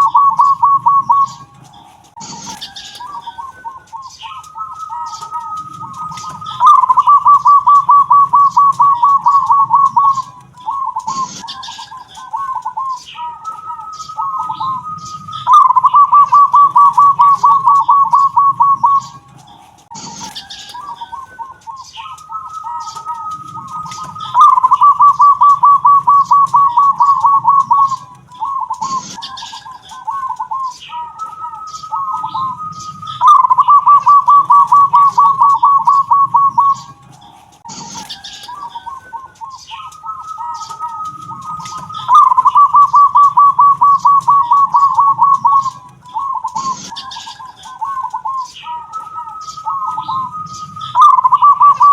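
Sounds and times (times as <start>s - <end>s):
dove cooing and trilling: 0.0s - 51.9s.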